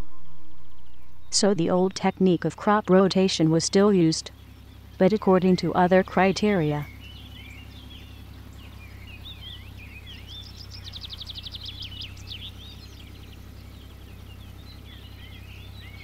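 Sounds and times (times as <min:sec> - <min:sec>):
steady low hum: 0:00.0 - 0:16.0
birds chirping and calling: 0:00.9 - 0:16.0.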